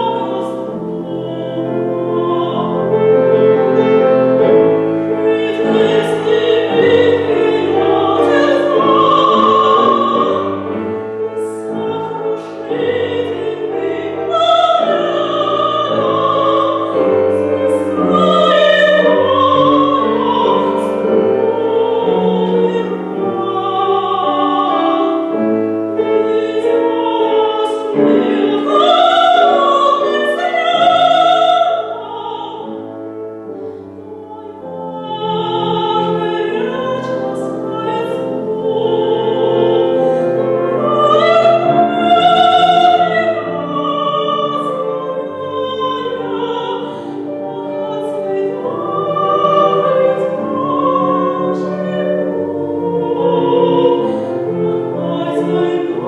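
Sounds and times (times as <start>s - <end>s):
classical solo voice singing: 0.0s - 56.0s
piano accompaniment: 0.0s - 56.0s.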